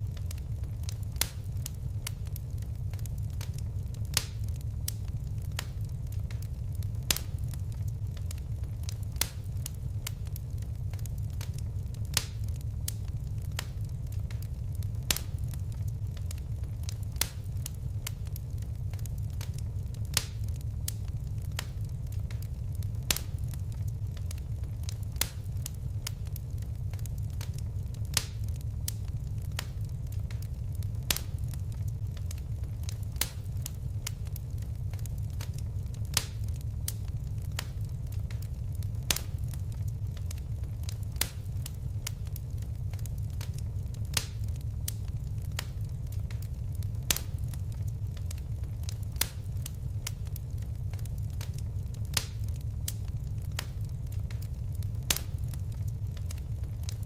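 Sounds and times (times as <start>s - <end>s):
low rumble of flames: 0.0s - 57.0s
wood fire crackling: 0.0s - 57.0s.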